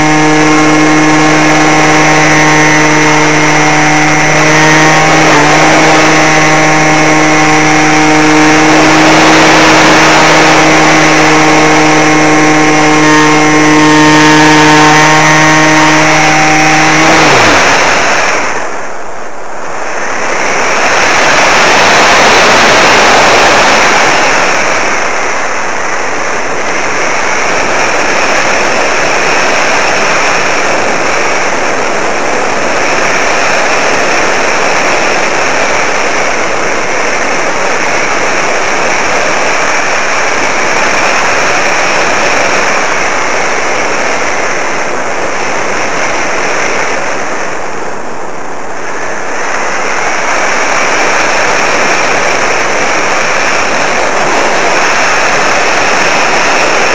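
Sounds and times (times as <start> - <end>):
model plane propeller rushing: 0.0 - 56.9.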